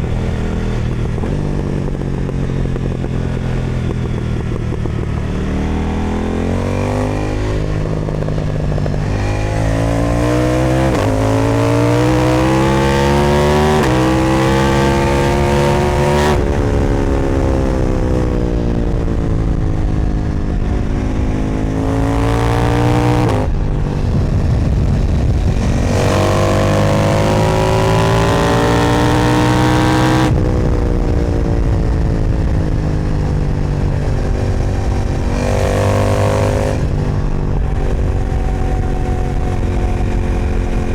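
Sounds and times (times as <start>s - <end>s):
motorcycle accelerating through gears: 0.0s - 40.9s
wind noise: 0.0s - 40.9s.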